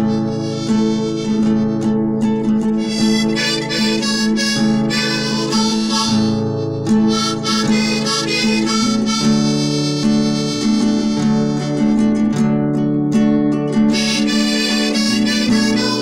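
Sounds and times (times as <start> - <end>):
faint guitar: 0.0 - 16.0
free-reed instrument melody: 0.0 - 16.0.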